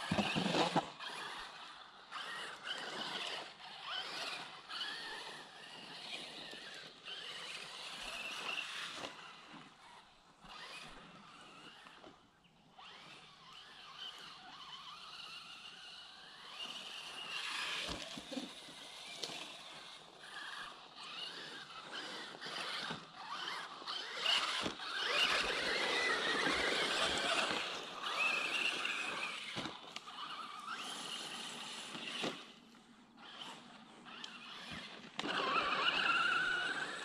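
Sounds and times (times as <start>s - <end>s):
electric motor and gears whining: 0.0s - 37.0s.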